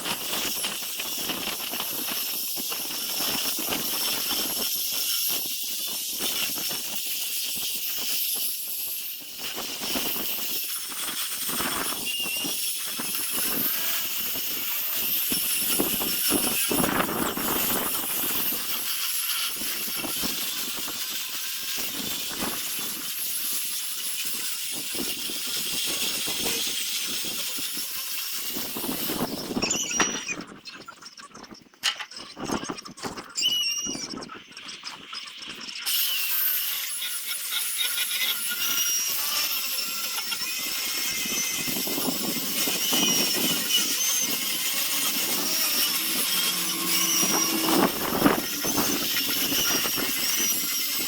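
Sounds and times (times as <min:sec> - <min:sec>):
power sander on wood: 0:00.0 - 0:30.2, 0:35.9 - 0:51.0.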